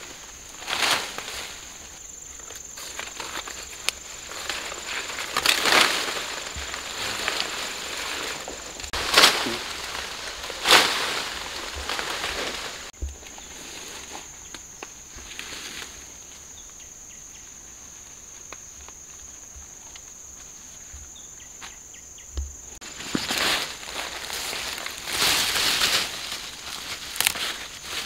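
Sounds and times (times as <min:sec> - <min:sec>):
insect chirring: 0:00.0 - 0:28.0
leaves and stems rustling: 0:00.0 - 0:28.0.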